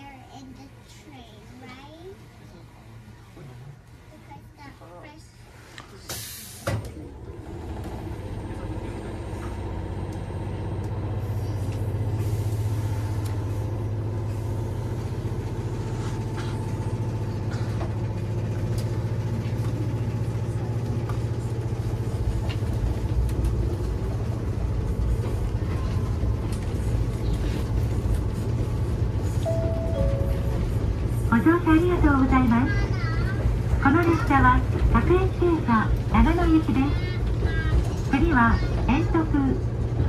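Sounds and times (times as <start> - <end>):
train equipment humming: 5.8 - 40.0.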